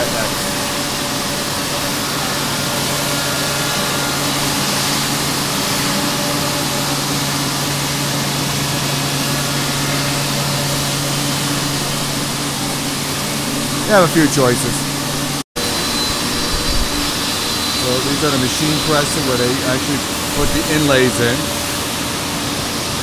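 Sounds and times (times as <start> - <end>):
ventilation rushing hiss: 0.0 - 15.4, 16.3 - 23.0
constant low hum: 0.0 - 22.5.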